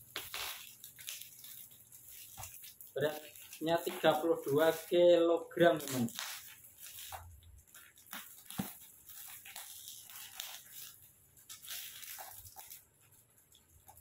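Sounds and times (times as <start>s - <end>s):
plastic wrap crinkling: 0.0s - 14.0s.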